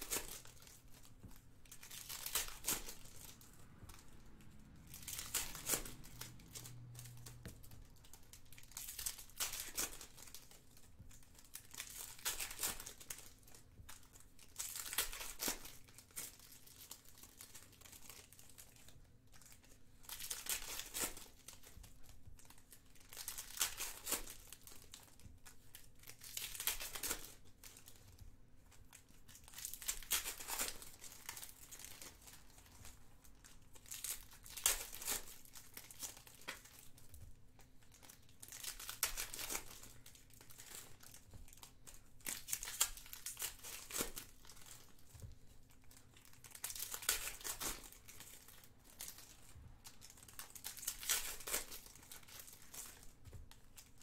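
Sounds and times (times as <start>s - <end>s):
foil wrappers crinkling and tearing: 0.0s - 54.0s.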